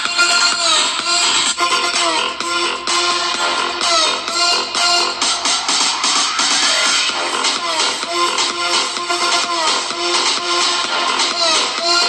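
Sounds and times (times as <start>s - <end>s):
electronic music through phone speaker: 0.0s - 12.0s.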